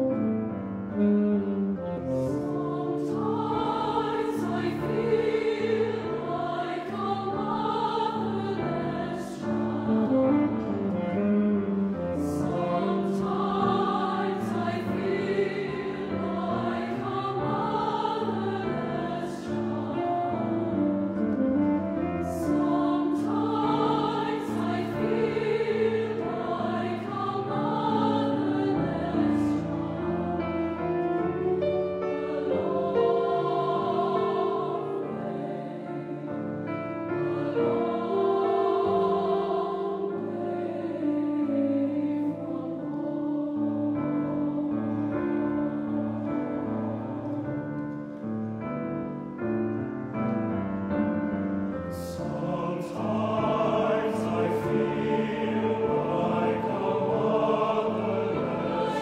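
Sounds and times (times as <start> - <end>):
choir singing: 1.8 - 49.8, 50.5 - 59.0.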